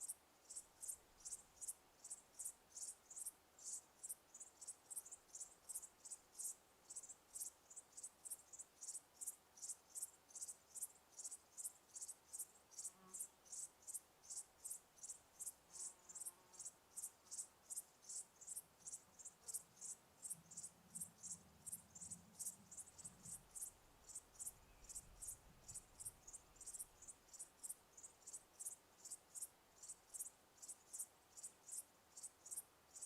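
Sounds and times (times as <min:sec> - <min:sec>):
cricket chirping: 0:00.0 - 0:33.0.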